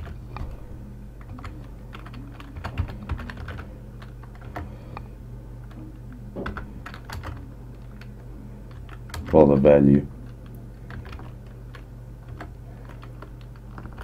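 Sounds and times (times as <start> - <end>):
low hum: 0.0 - 14.0
keyboard typing clicks: 1.2 - 9.4, 10.2 - 14.0.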